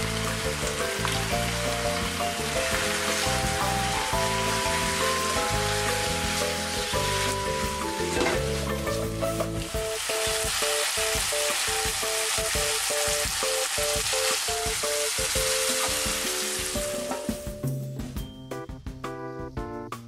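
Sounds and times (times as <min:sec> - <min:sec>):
meat and peppers sizzling in a pan: 0:00.0 - 0:17.5.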